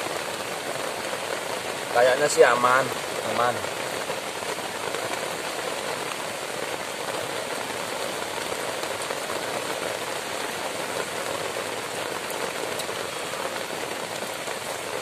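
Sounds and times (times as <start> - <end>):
heavy rain on thatched shelter: 0.0 - 15.0.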